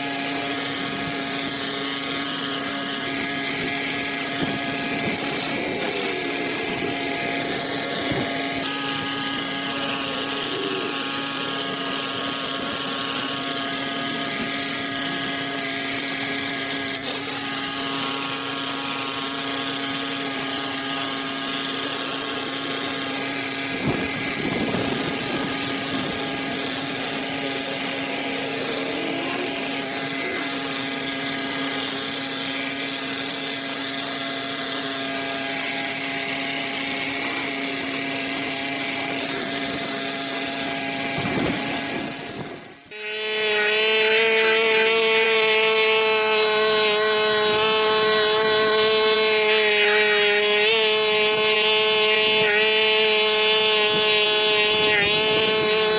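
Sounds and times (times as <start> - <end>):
pressure washer motor hum: 0.0 - 55.9.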